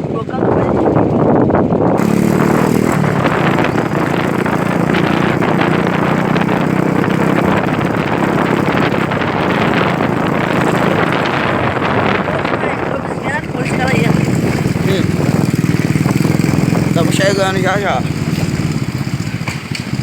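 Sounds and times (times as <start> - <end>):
broad rushing noise: 0.0 - 20.0
motorcycle engine running: 0.0 - 20.0.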